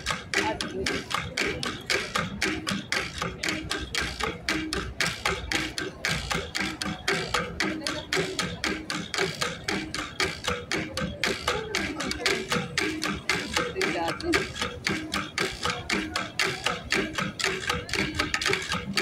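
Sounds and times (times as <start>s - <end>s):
flat gongs beaten rhythmically: 0.0s - 19.0s.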